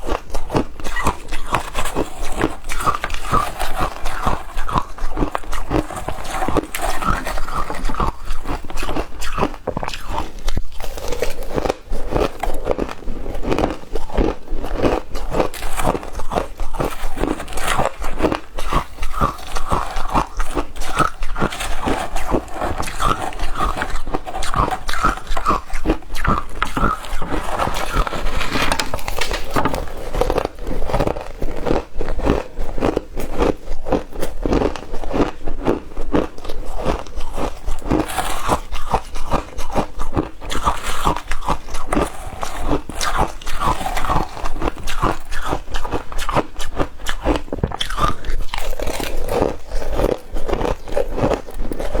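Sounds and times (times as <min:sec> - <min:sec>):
ice crunching while chewed: 0:00.0 - 0:52.0.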